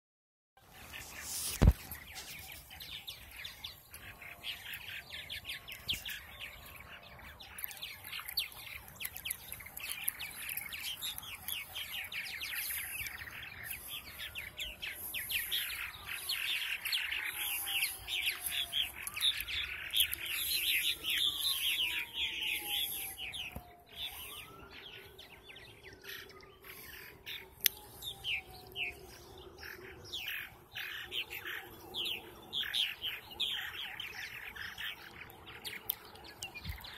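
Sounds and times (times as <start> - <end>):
birds chirping in chatter: 0.6 - 36.9.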